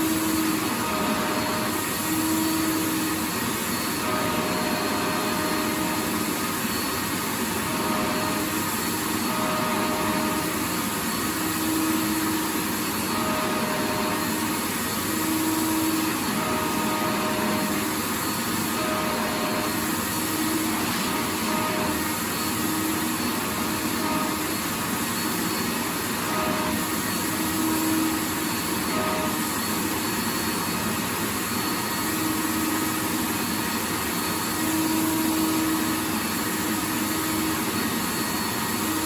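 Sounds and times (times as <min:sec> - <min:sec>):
vacuum cleaner motor running: 0:00.0 - 0:39.0.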